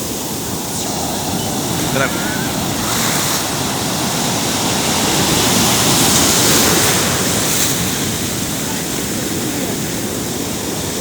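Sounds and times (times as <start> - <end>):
waves breaking on a beach: 0.0 - 11.0.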